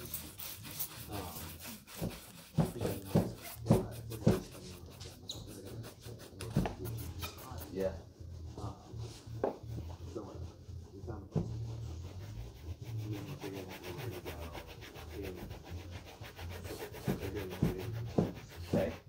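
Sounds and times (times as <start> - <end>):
rubbing on leather shoes: 0.0 - 19.0.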